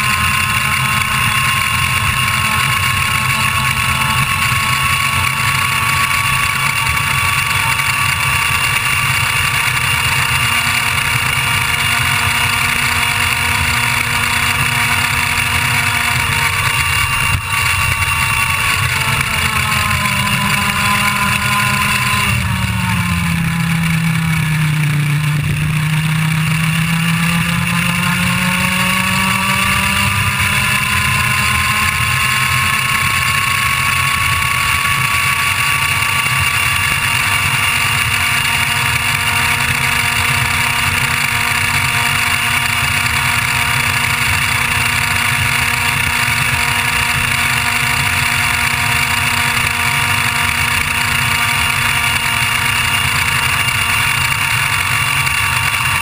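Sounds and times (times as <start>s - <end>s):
kart engine accelerating: 0.0s - 56.0s.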